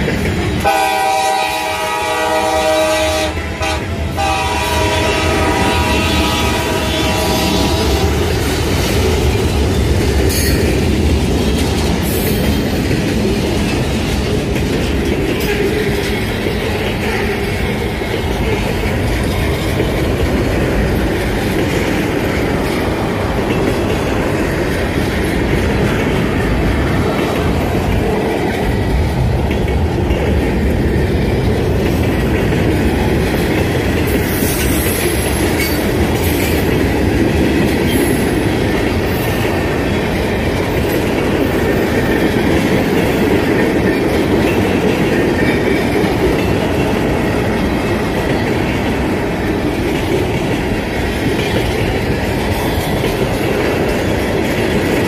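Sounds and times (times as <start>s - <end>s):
freight train cars rumbling: 0.0s - 55.0s.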